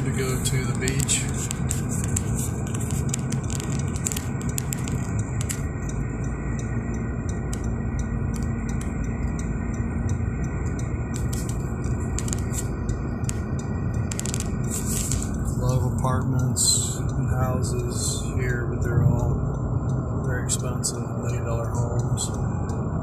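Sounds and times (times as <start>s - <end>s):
light ticks: 0.0s - 23.0s
road and engine noise inside car: 0.0s - 23.0s.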